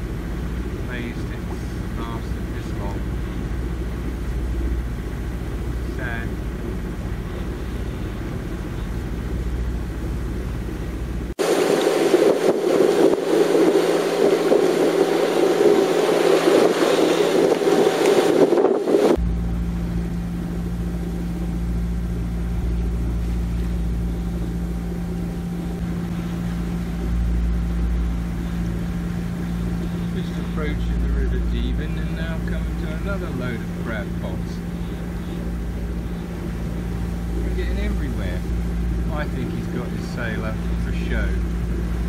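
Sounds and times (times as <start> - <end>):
boat engine running: 0.0 - 42.0
rush of wind and water: 0.0 - 42.0.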